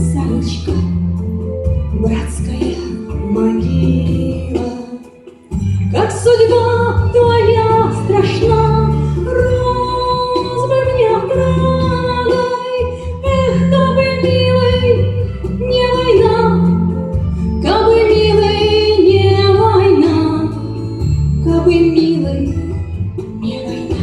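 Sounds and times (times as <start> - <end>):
slow song melody over bass: 0.0 - 24.0.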